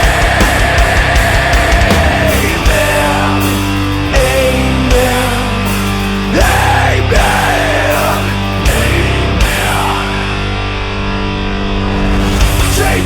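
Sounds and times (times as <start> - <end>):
heavy metal music: 0.0 - 13.0.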